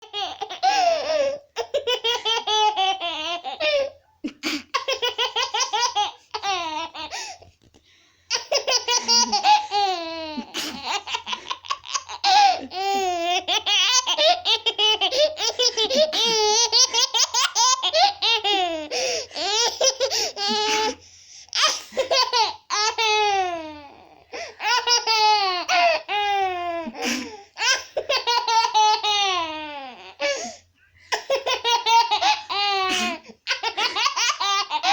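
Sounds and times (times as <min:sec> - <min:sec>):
baby laughing: 0:00.0 - 0:07.4, 0:08.3 - 0:21.0, 0:21.6 - 0:30.4, 0:31.1 - 0:34.9.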